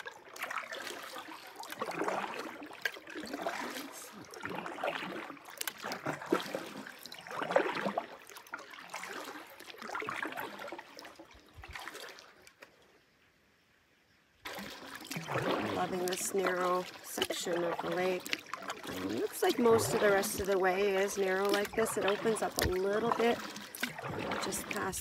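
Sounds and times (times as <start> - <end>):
canoe paddle strokes in water: 0.0 - 13.0, 14.4 - 25.0.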